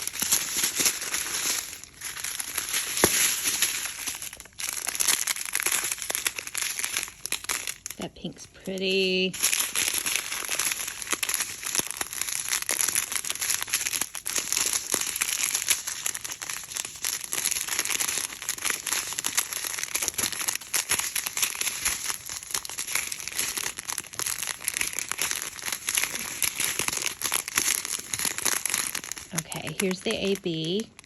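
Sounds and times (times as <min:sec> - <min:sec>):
plastic baggies crinkling: 0:00.0 - 0:31.0.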